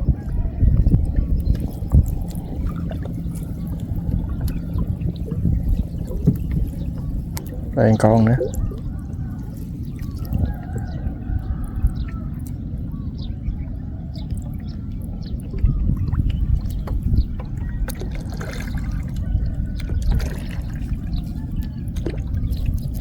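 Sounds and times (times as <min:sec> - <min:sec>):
steady low rumble: 0:00.0 - 0:23.0
water dripping and splashing: 0:01.1 - 0:10.9, 0:14.3 - 0:23.0.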